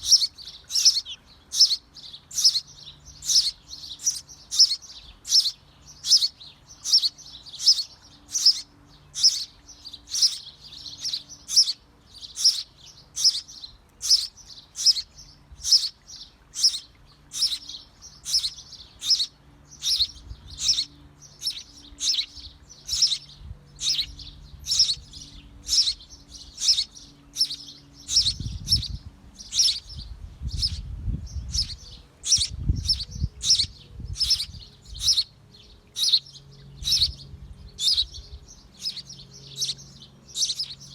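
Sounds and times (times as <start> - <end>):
small bird chirping: 0.0 - 40.9.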